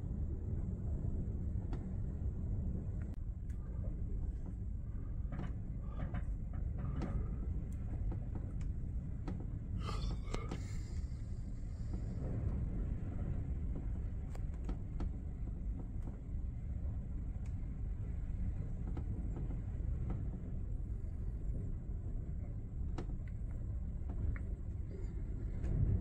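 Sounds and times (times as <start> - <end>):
wind and heavy sea rumble: 0.0 - 26.0.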